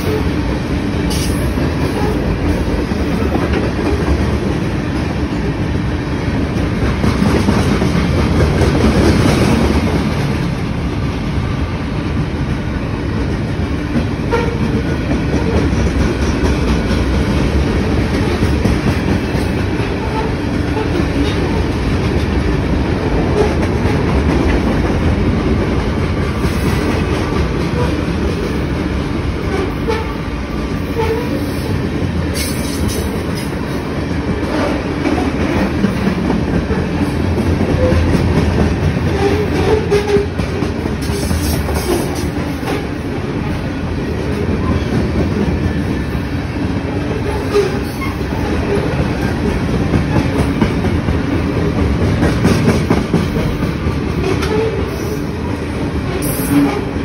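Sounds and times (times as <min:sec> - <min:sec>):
train wheels clacking on rail joints: 0:00.0 - 0:05.5, 0:06.4 - 0:10.6, 0:12.4 - 0:57.0
freight train rumbling past: 0:00.0 - 0:57.0.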